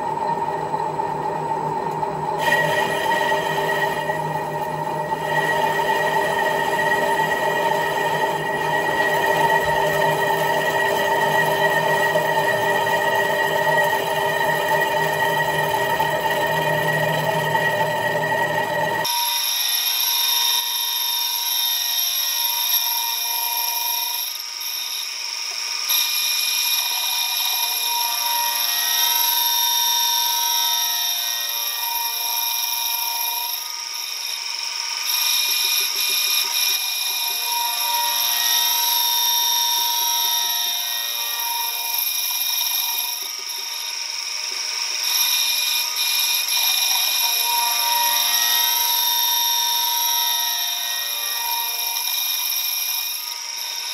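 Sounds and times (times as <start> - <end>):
metal lathe cutting metal: 0.0 - 53.9.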